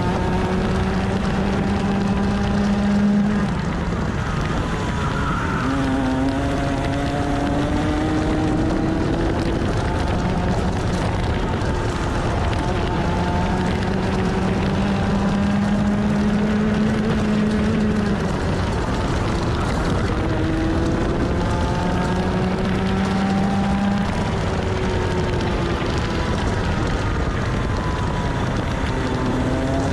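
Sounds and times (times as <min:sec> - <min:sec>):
kart engine revving: 0:00.0 - 0:29.9.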